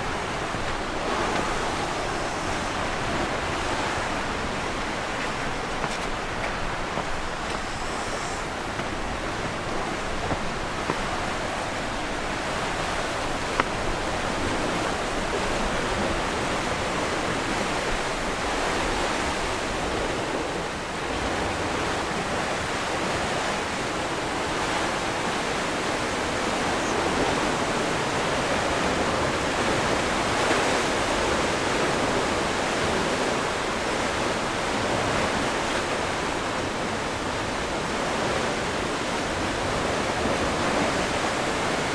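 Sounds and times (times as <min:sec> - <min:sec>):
sea surf washing on shore: 0:00.0 - 0:41.9.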